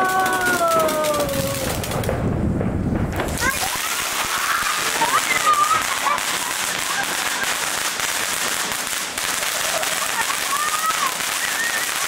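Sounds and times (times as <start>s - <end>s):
fireworks fountain crackling hiss: 0.0s - 12.0s.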